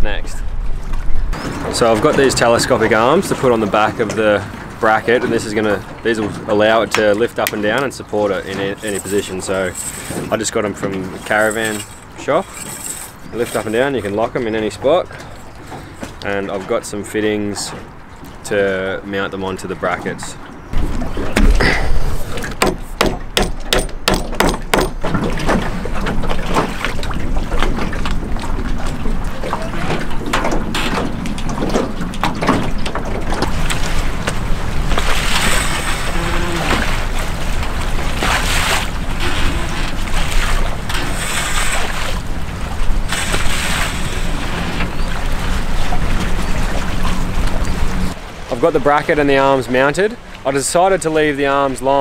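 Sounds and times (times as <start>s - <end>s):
wind and water noise: 0.0s - 52.0s.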